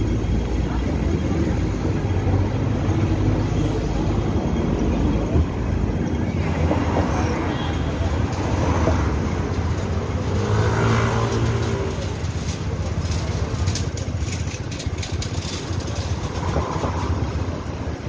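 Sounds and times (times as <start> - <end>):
vehicle engines passing: 0.0 - 18.0.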